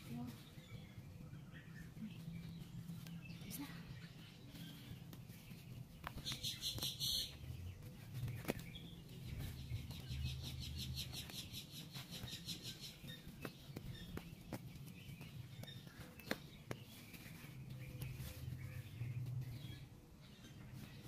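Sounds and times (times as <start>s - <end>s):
bird chirping: 0.1s - 21.0s.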